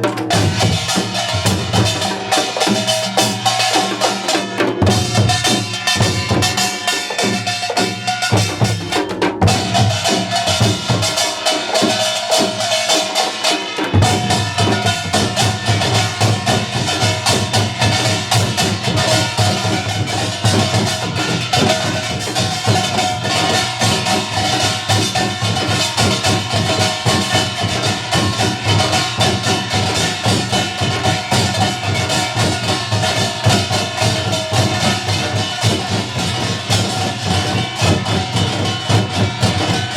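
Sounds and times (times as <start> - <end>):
folk percussion group drumming: 0.0 - 39.9.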